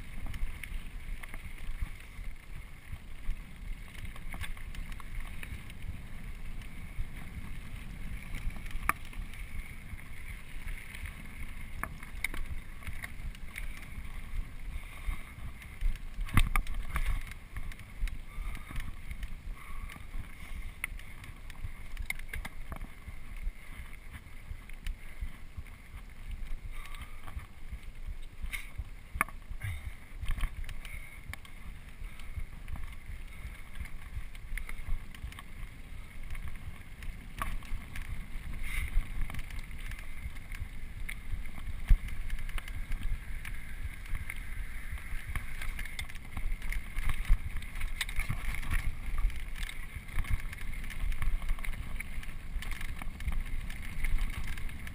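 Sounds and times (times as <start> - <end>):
bike rattling: 0.0 - 54.9
bike tyres rumbling on dirt: 0.0 - 54.9.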